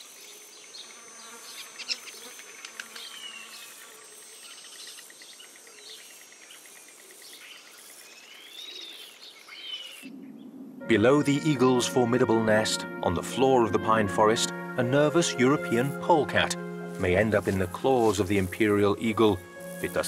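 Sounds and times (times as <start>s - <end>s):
insects buzzing: 0.0s - 11.4s, 14.2s - 20.0s.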